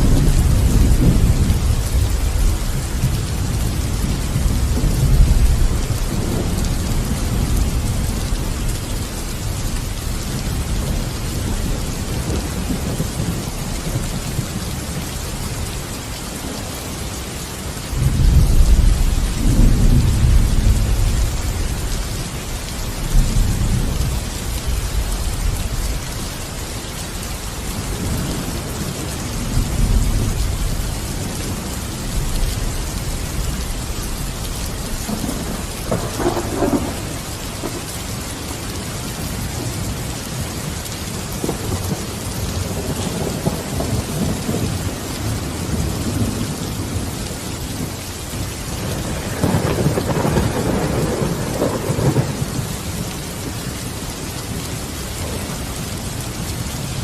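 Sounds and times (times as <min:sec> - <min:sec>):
thunder rumbling: 0:00.0 - 0:15.0, 0:18.0 - 0:26.0, 0:27.6 - 0:57.0
heavy rain: 0:00.0 - 0:57.0.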